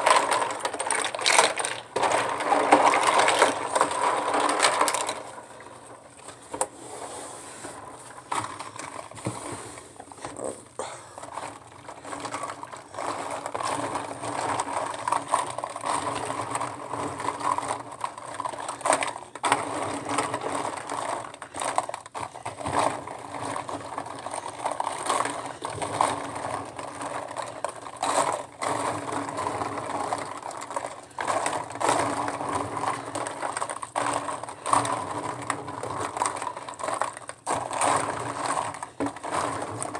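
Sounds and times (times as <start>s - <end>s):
plastic tubes clacking in water: 0.0s - 6.8s, 7.8s - 39.9s.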